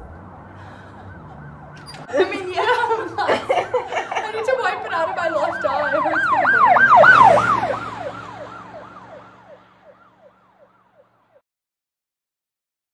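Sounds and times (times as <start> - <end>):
siren yelping: 0.0 - 11.4.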